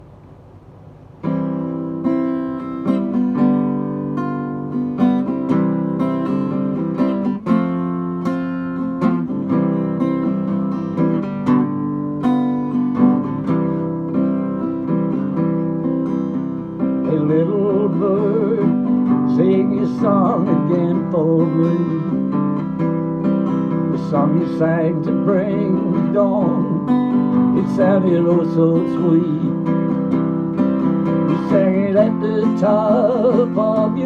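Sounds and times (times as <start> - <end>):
acoustic guitar strummed chords: 0.0 - 34.0.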